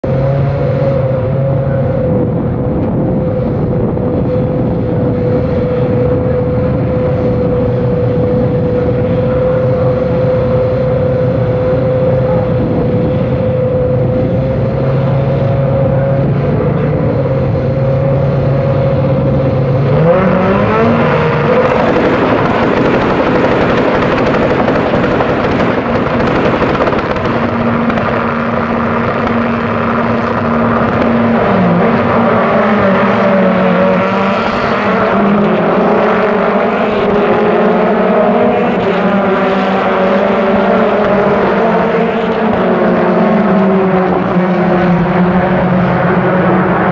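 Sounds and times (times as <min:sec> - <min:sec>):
race car engines idling: 0:00.0 - 0:46.9
race car engines revving: 0:00.0 - 0:46.9.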